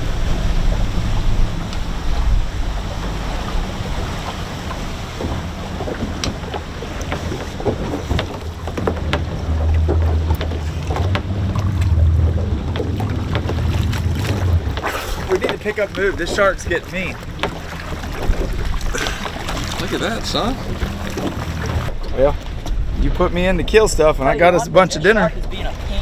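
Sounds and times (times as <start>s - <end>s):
boat engine humming: 0.0s - 26.0s
water slapping against hull: 0.0s - 26.0s
wind buffeting microphone: 0.0s - 26.0s.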